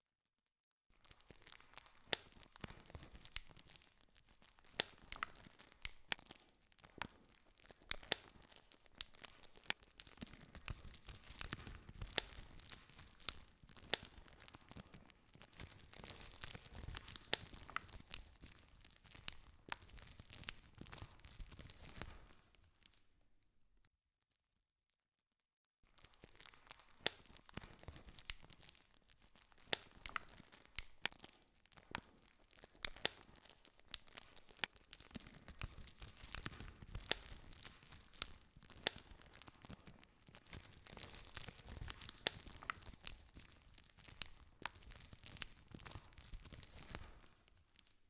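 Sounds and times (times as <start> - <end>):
wood fire crackling and popping: 1.0 - 23.1, 25.9 - 48.0.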